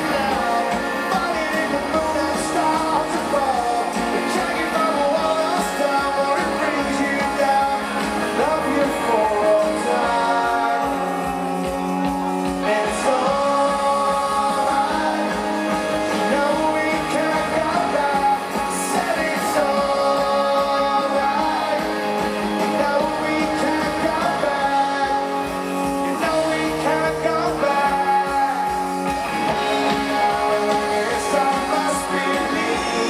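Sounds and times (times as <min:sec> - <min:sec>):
live rock band: 0:00.0 - 0:33.0.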